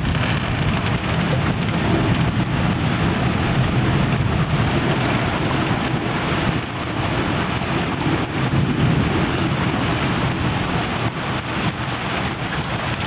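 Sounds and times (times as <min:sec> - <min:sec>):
heavy rain pouring: 0:00.0 - 0:13.0
thunder rumble: 0:00.0 - 0:13.0.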